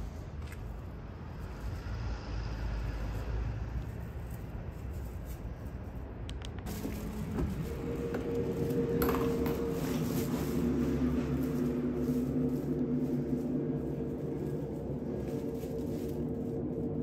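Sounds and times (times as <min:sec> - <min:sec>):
street rumble: 0:00.0 - 0:17.0.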